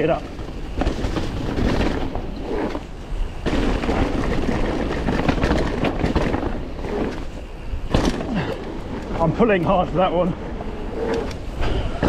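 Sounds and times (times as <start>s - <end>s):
bike clattering and rattling: 0.0s - 12.0s
wind and tyres on dirt: 0.0s - 12.0s.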